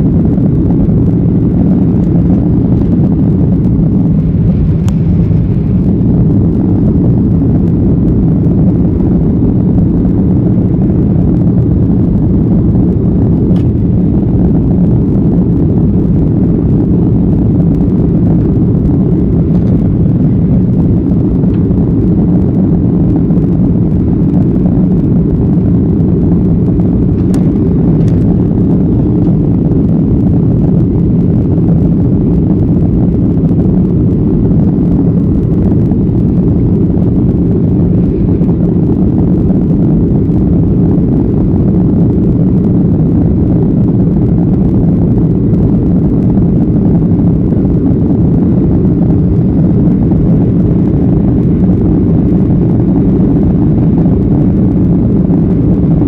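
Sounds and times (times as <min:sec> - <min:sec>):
jet engine cabin rumble: 0:00.0 - 0:56.0.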